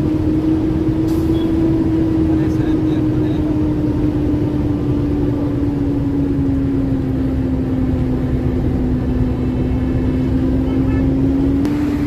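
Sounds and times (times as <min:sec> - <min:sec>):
dense low rumble: 0:00.0 - 0:12.0
truck engine running: 0:00.0 - 0:12.0.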